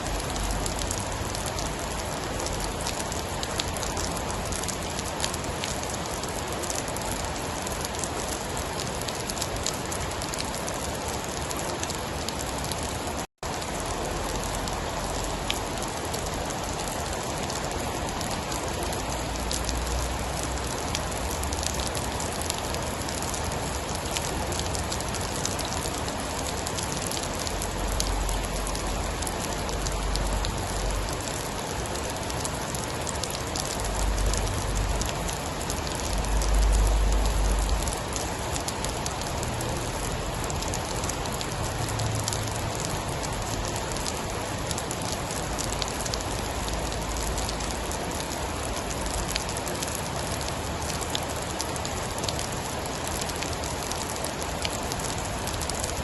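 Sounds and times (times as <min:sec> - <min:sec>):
heavy rain: 0:00.0 - 0:56.0
sharp rain drop ticks: 0:00.1 - 0:56.0.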